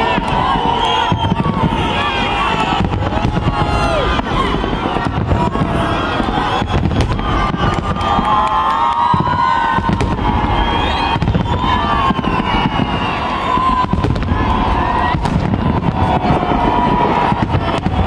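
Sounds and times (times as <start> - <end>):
fireworks booming and cracking: 0.0 - 18.0
fireworks whistling: 0.0 - 18.0.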